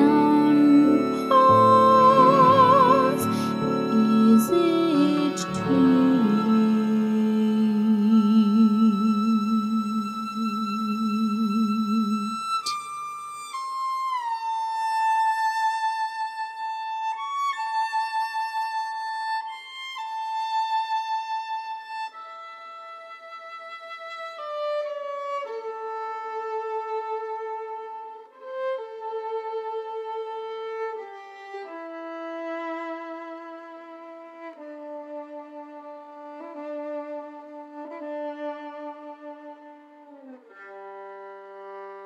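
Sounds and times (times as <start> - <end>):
solo violin slow melody: 0.0 - 42.0.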